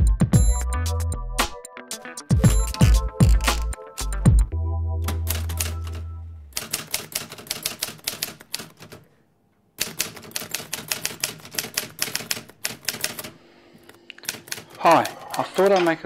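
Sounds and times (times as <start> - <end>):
rapid key clicks: 2.3 - 9.0, 9.8 - 16.0.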